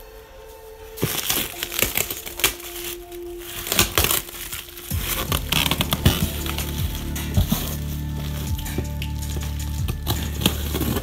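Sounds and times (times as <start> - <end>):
faint background music: 0.0 - 11.0
plastic wrapping crinkling: 0.4 - 11.0.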